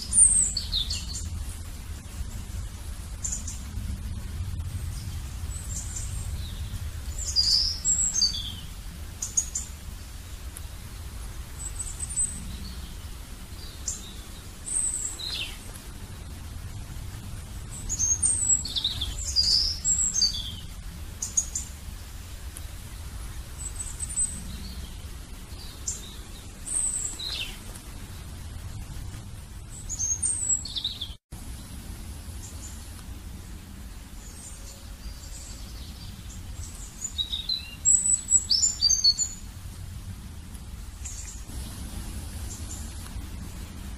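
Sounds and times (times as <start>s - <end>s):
small birds chirping: 0.0s - 43.9s
steady low rumble: 0.0s - 43.9s.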